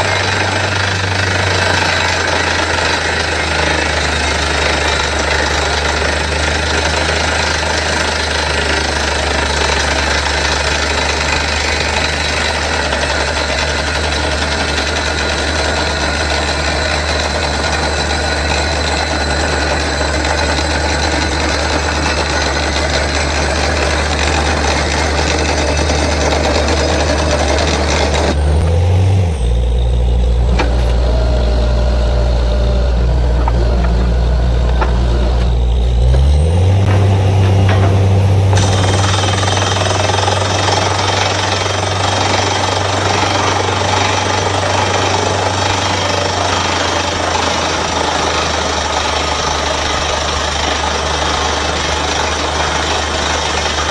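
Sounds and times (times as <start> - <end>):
drilling rig engine under load: 0.0 - 53.9
steady drilling noise: 0.0 - 53.9.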